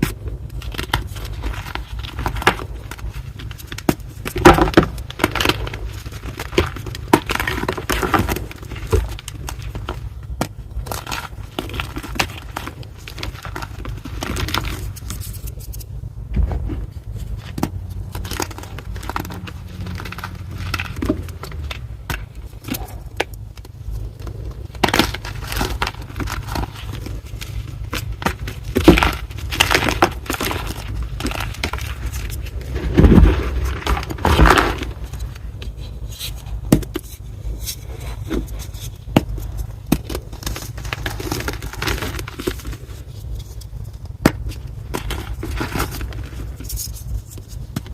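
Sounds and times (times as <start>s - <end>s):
chalk block crunching: 0.0s - 47.9s.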